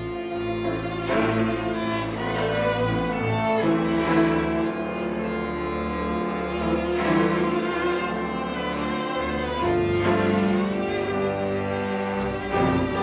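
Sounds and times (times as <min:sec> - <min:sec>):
deep bowed bass line: 0:00.0 - 0:13.0
violin and cello held notes: 0:00.0 - 0:13.0.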